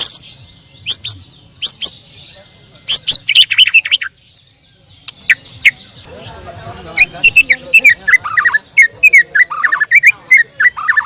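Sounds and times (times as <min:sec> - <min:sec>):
songbird whistling and chattering: 0:00.0 - 0:11.0.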